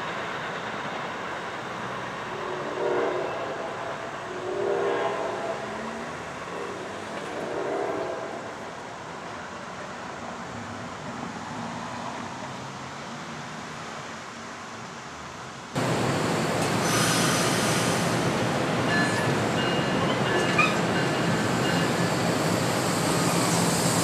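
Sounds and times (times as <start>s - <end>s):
distant train rumble: 0.0s - 12.4s, 15.8s - 24.0s
passenger train passing close: 0.0s - 24.0s.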